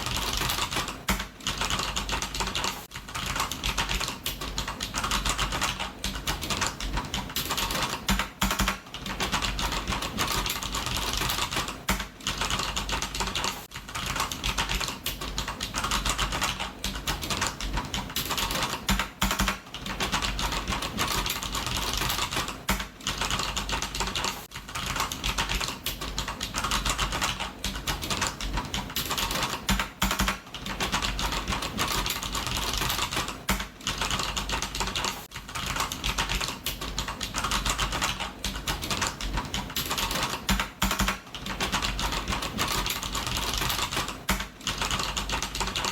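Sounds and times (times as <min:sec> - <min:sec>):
typing on computer keyboard: 0:00.0 - 0:45.9.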